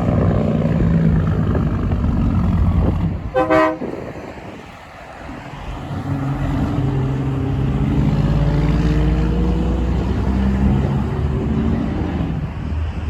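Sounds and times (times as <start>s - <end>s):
truck engine driving by: 0.0s - 13.0s.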